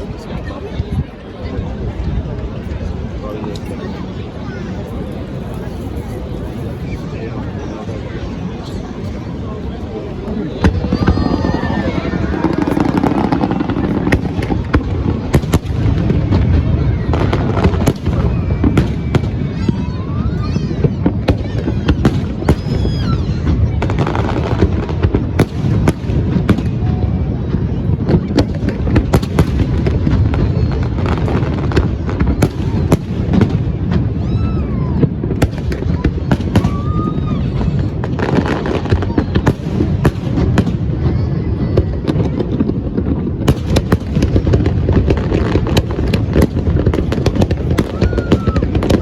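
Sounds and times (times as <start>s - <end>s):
fireworks bangs: 0.0s - 49.0s.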